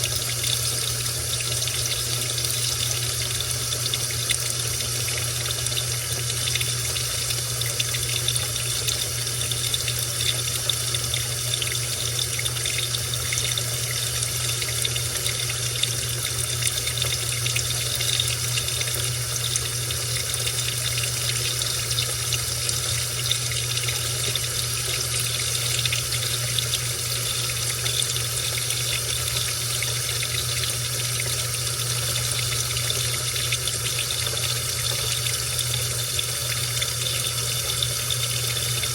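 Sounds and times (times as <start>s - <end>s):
washing machine water rushing: 0.0s - 38.9s.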